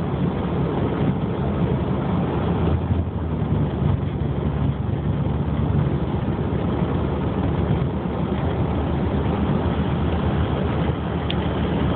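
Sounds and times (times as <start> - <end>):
car engine droning: 0.0 - 11.9.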